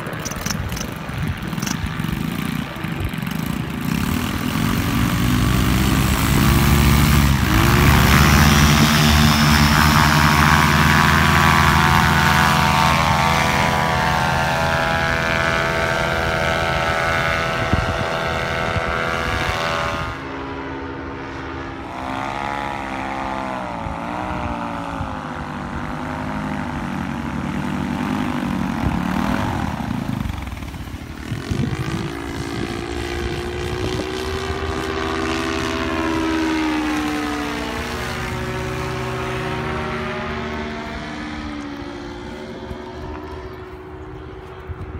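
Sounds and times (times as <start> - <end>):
paramotor engine and propeller: 0.0 - 44.9.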